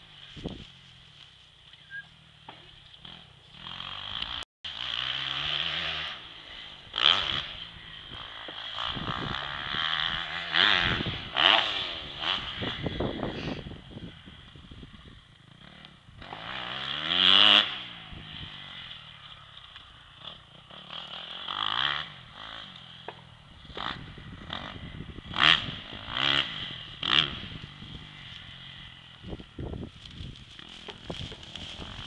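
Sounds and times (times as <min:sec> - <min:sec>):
distant dirt bike revving: 0:01.7 - 0:32.0.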